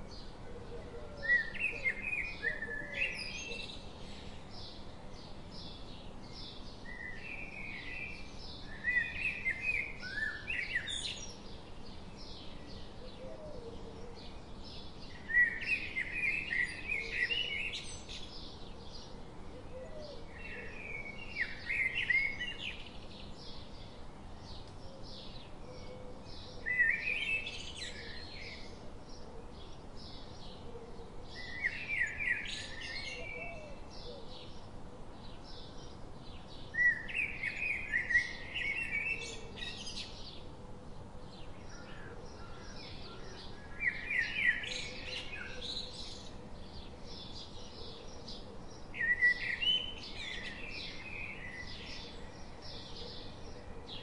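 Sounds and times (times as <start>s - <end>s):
steady low hiss: 0.0s - 54.0s.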